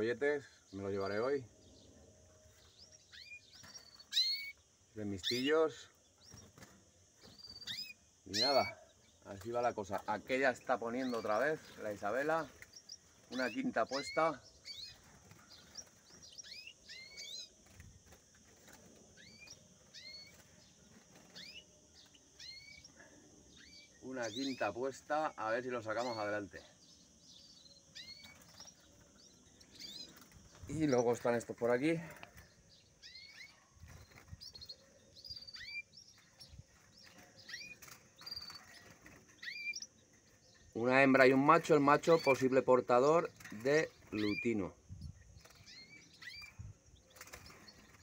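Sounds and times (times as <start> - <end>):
finches chirping: 0.0 - 48.0.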